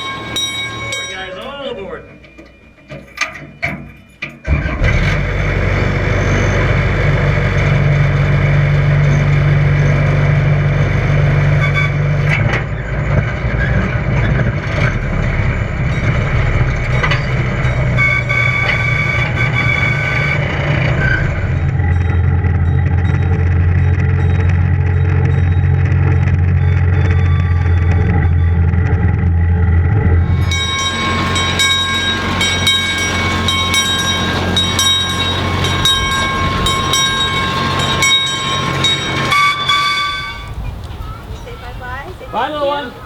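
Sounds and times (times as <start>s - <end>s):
ride train engine drone: 0.0s - 43.0s.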